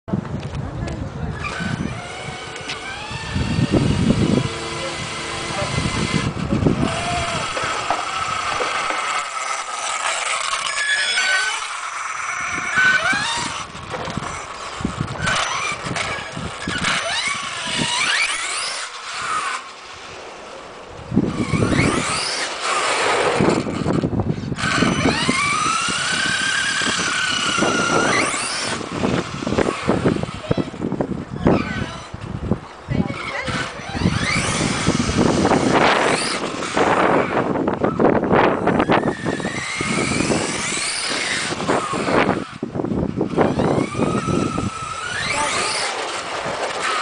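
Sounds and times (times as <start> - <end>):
tyres on asphalt: 0.1 - 47.0
electric motor high whine: 1.3 - 47.0.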